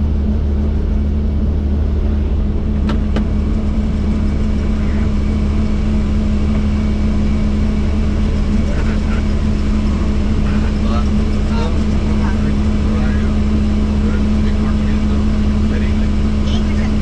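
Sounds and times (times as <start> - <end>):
helicopter drone: 0.0 - 17.0.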